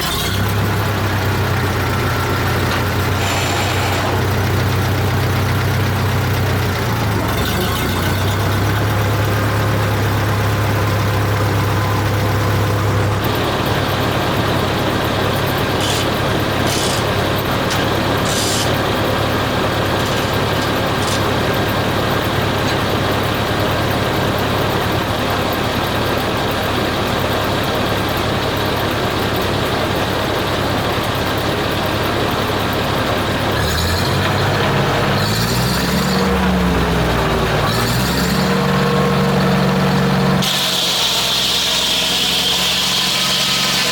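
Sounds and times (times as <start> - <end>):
heavy engine running and revving: 0.0 - 43.9.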